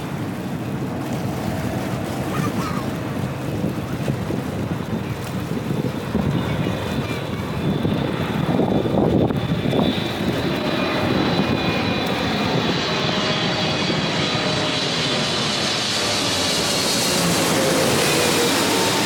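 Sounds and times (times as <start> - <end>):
jet airliner passing: 0.0 - 19.0
wind buffeting microphone: 0.0 - 19.0.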